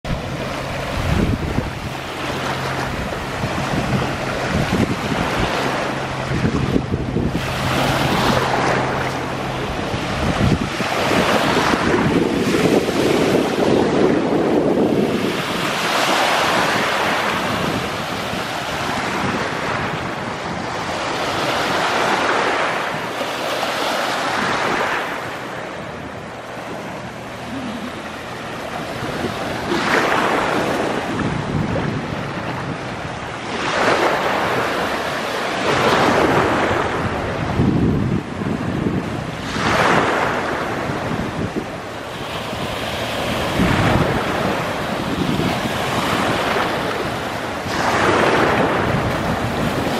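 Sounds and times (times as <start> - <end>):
wind buffeting the microphone: 0.0 - 49.9
small waves breaking on sand: 0.1 - 49.9.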